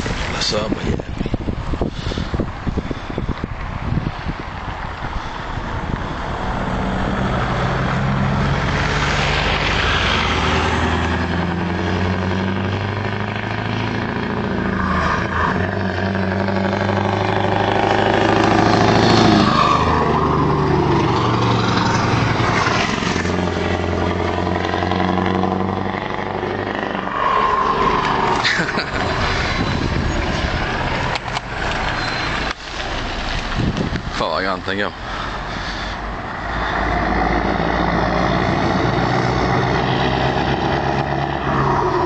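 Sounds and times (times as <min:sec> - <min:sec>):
diesel engine running under load: 0:04.7 - 0:42.0.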